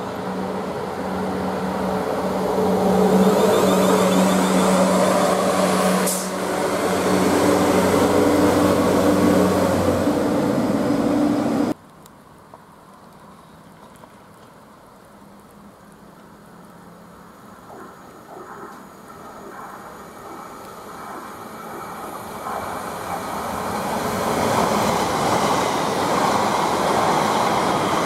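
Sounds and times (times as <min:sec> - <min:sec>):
wheel and rail noise: 0:00.0 - 0:28.0.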